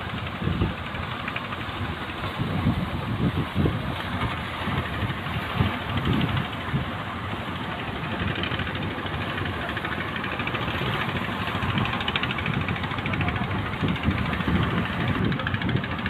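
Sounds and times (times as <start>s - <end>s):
boat engine running: 0.0s - 16.0s
wind and sea rushing: 0.0s - 16.0s.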